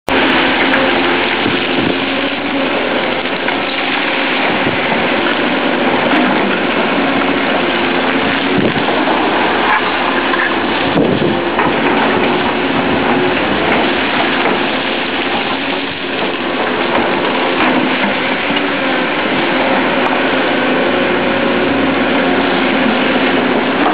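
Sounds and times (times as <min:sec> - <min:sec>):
constant rushing noise: 0:00.0 - 0:23.9
excavator diesel engine running: 0:00.1 - 0:23.9.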